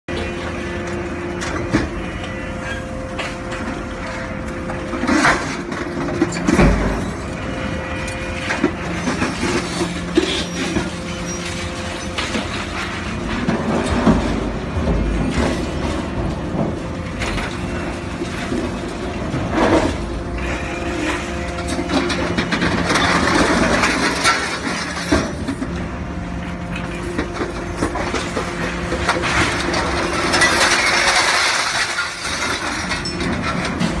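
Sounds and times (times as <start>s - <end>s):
engine and hydraulic hum: 0.1s - 34.0s
metal clanks and crashes: 1.4s - 34.0s.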